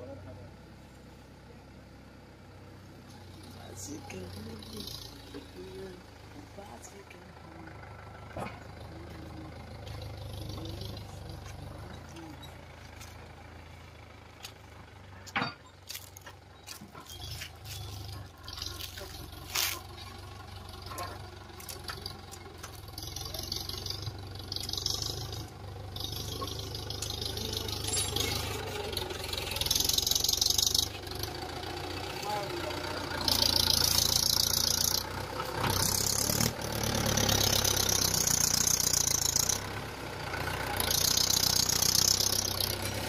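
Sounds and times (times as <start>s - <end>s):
tractor diesel engine: 0.0s - 43.0s.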